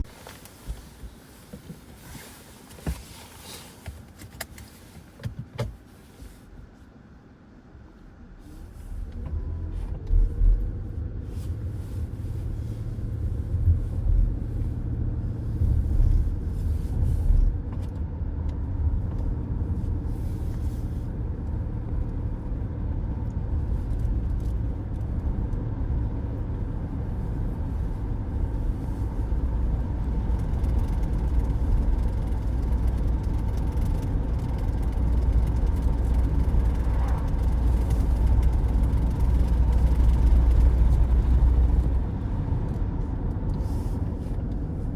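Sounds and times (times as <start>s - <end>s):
car road noise rumble: 0.0s - 44.9s.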